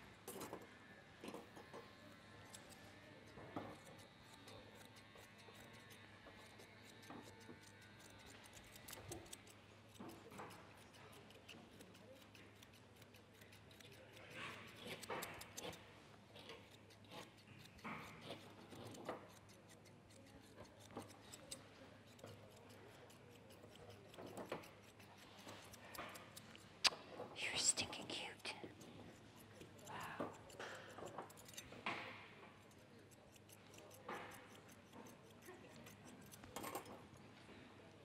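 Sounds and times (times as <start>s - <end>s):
scissors snipping hair: 2.4s - 27.1s, 27.8s - 37.2s.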